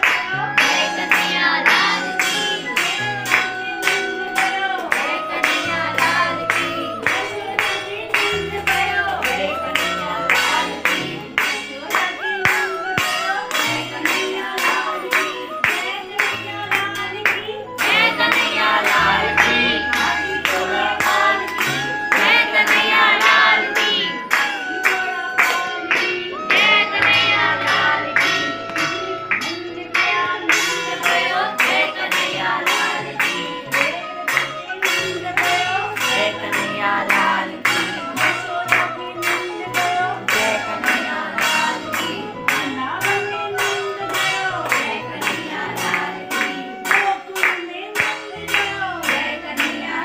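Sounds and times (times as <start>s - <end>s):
person singing with vibrato: 0.0s - 50.0s.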